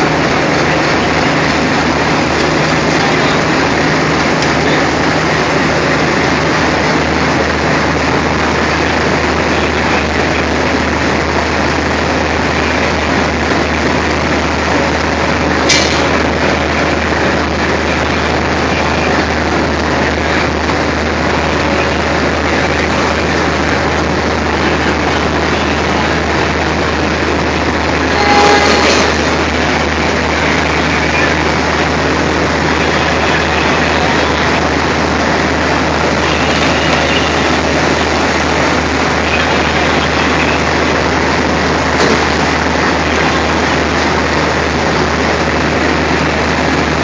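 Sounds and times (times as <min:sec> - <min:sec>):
diesel locomotive engine idling: 0:00.0 - 0:47.0.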